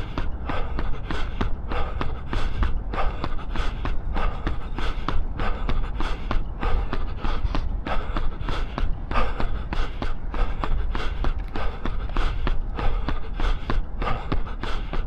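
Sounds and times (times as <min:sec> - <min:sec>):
hard rhythmic breathing: 0:00.0 - 0:15.0
running footfalls: 0:00.0 - 0:15.0
wind rumble on microphone: 0:00.0 - 0:15.0.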